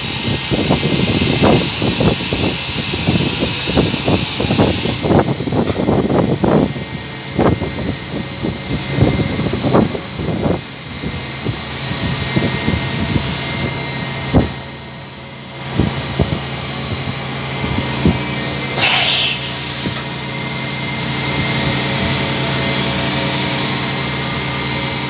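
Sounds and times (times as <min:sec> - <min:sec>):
machine hum with whining tones: 0:00.0 - 0:25.0.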